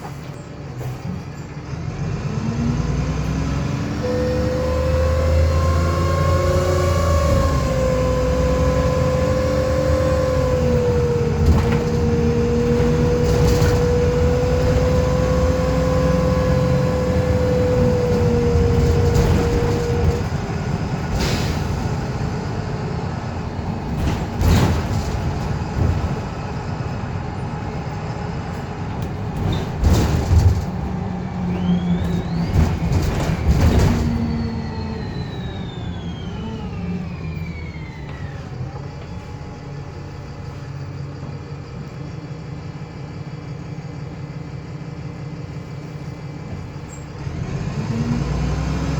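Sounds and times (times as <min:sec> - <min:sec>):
knocks and rattles of bus body: 0:00.0 - 0:02.2, 0:04.6 - 0:48.9
bus engine running: 0:00.0 - 0:48.9.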